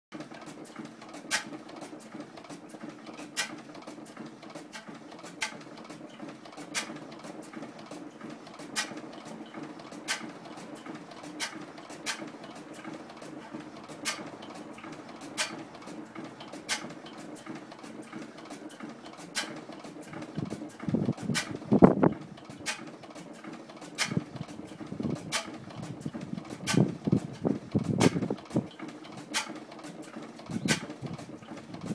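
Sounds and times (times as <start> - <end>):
stationary gas engine running: 0.2 - 31.9.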